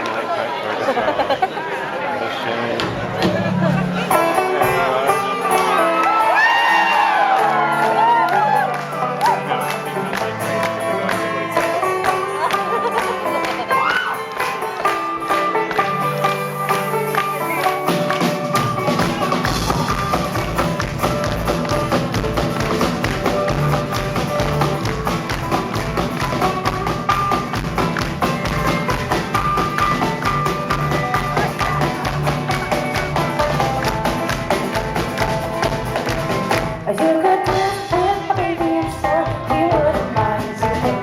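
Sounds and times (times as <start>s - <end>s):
live band playing: 2.6s - 41.0s
bass: 2.8s - 41.0s
fast steady percussion: 2.8s - 41.0s.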